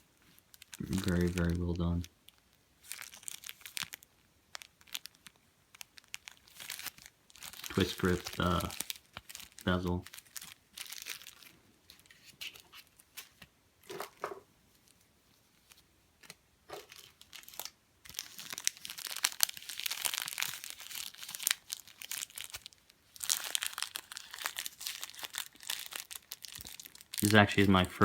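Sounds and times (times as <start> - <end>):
plastic packaging crinkling: 0.2 - 28.0.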